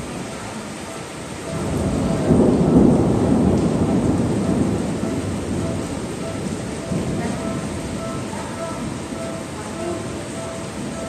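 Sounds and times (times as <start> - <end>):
heavy rain: 0.0 - 11.0
thunder rumbling: 0.0 - 11.0.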